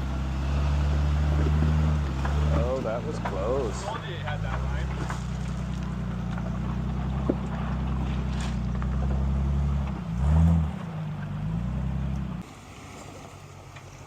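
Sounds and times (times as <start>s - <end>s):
pickup engine running at low speed: 0.0s - 14.0s.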